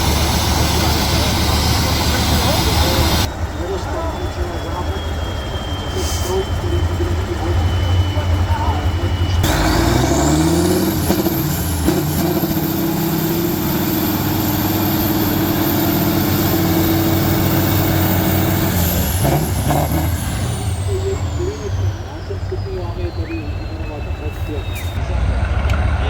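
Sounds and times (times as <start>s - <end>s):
high whine: 0.0s - 26.0s
truck engine revving high: 0.0s - 26.0s.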